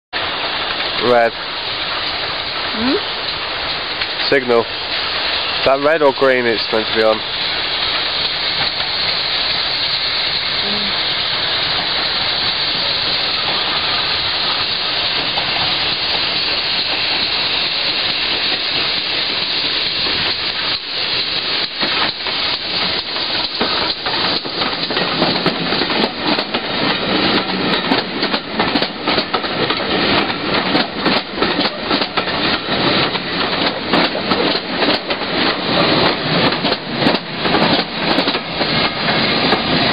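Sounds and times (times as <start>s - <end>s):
steady hiss: 0.2s - 39.9s
train wheels clicking over rail joints: 0.2s - 39.9s.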